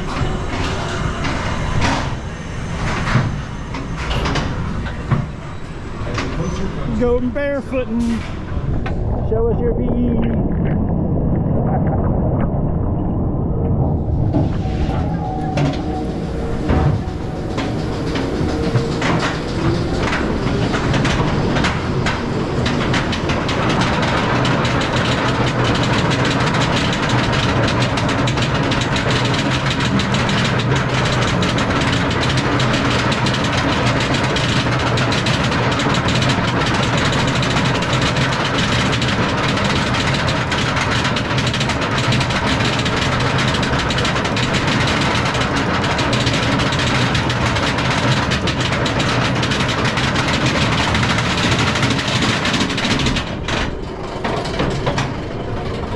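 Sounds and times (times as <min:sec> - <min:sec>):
roller coaster mechanical rumble: 0:00.0 - 0:55.9.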